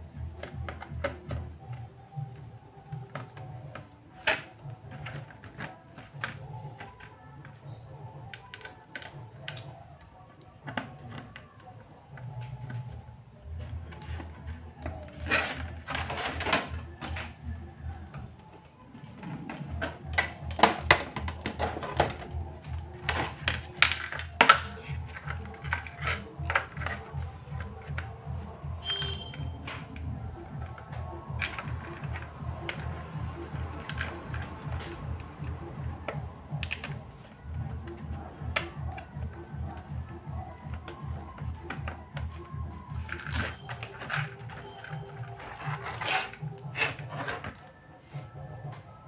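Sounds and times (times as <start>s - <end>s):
background music: 0.0s - 49.0s.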